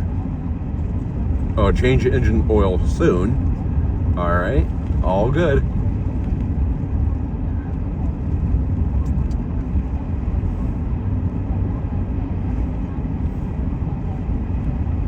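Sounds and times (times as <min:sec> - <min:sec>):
truck engine and tyre noise: 0:00.0 - 0:15.0.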